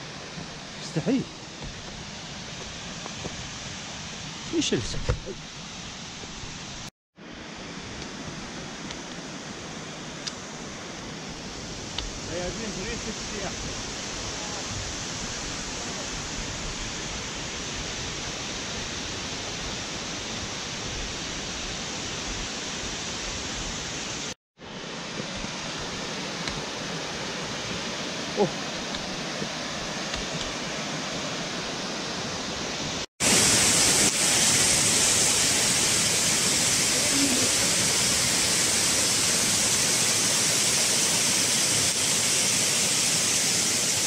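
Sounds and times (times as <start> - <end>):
waterfall and stream rushing: 0.0 - 44.0.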